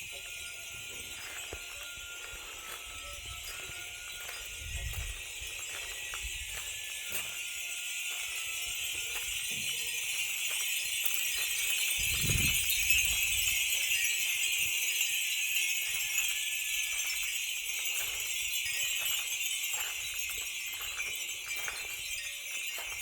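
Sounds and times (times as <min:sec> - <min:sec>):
wind chimes tinkling: 0:00.0 - 0:23.0.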